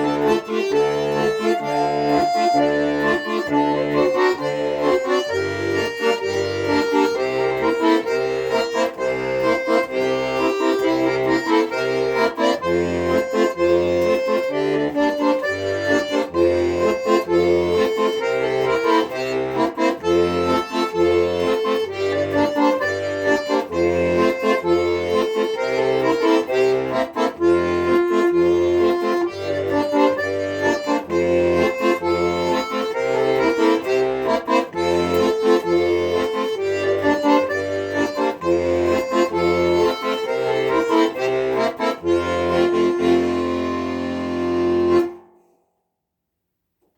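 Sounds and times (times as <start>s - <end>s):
accordion playing: 0.0s - 45.6s.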